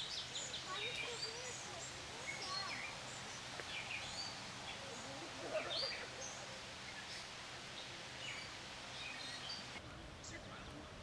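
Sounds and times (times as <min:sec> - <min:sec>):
birds chirping and calling: 0:00.0 - 0:11.0
steady background hiss: 0:00.0 - 0:11.0.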